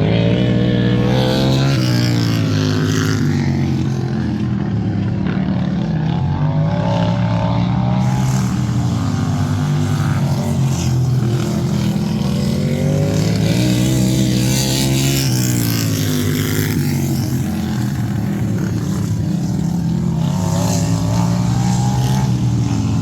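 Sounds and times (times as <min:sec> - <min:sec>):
lawn tractor engines racing: 0:00.0 - 0:23.0.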